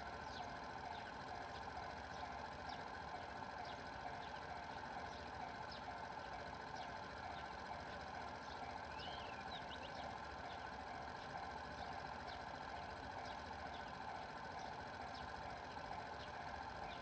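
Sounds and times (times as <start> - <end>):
level-crossing warning bell: 0.0 - 17.0.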